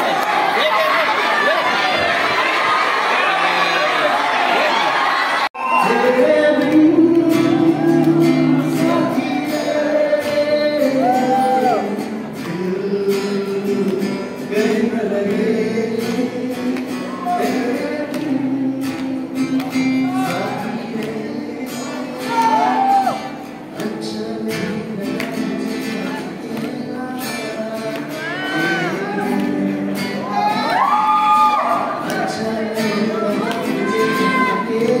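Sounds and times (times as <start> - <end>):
acoustic guitar: 5.6 - 35.0
man singing: 5.6 - 35.0.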